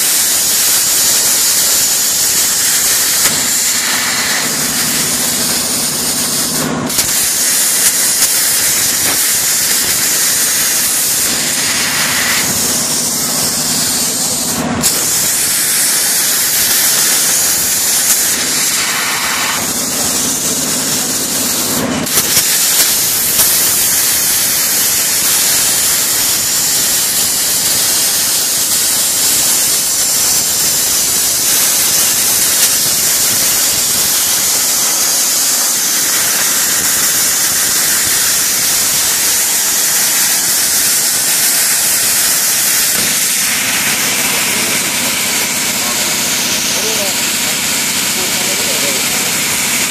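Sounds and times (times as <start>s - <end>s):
plasma cutter hissing: 0.0s - 49.9s.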